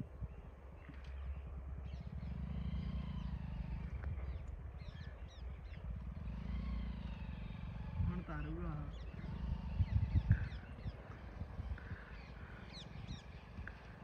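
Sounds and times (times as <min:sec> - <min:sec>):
birds calling: 0:00.0 - 0:14.0
small motorcycle engine running: 0:00.8 - 0:14.0.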